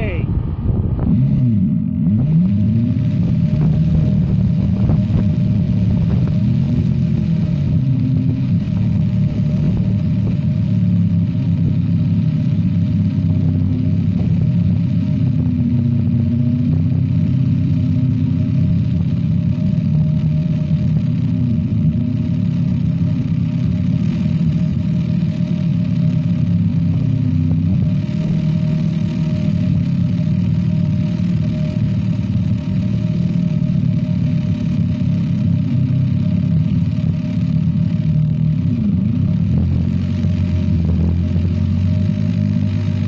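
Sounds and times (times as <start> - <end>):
generator engine running: 0.0 - 43.0.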